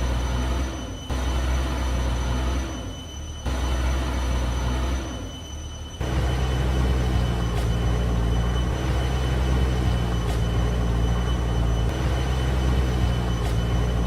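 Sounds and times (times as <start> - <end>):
backhoe diesel engine droning: 0.0 - 14.0
faint high whine: 0.0 - 14.0.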